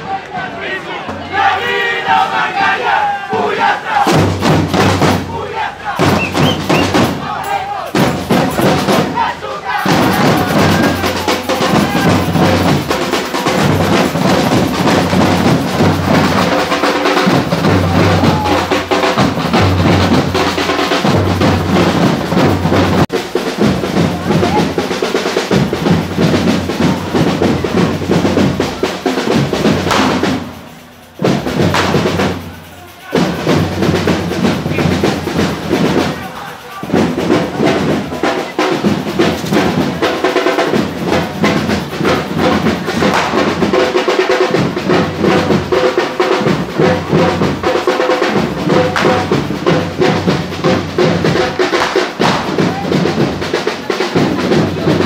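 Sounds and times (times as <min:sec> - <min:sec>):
bass and snare drums beating: 0:00.0 - 0:55.0
crowd voices: 0:00.0 - 0:55.0.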